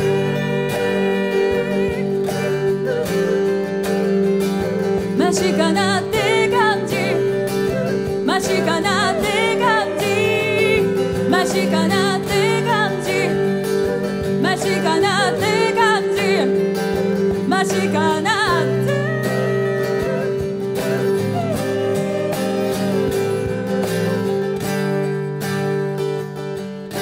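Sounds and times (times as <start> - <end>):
woman singing: 0.0 - 3.7, 4.4 - 24.5
strummed acoustic guitar: 0.0 - 27.0.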